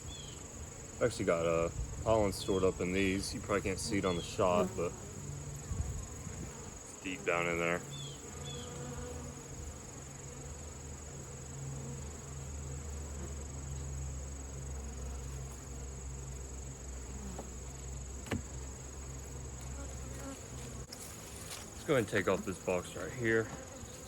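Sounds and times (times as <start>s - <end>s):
high-pitched insect trill: 0.0s - 7.0s, 7.6s - 24.0s
bees buzzing: 0.0s - 24.0s.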